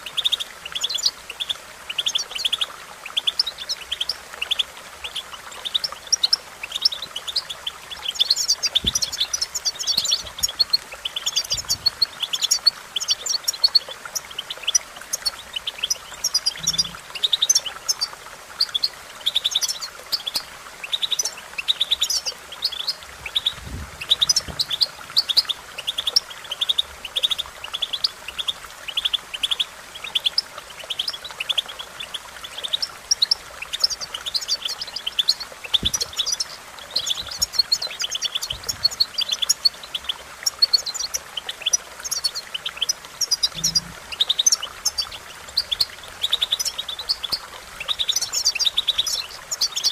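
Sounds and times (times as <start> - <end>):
goldfinch twittering song: 0.0 - 49.9.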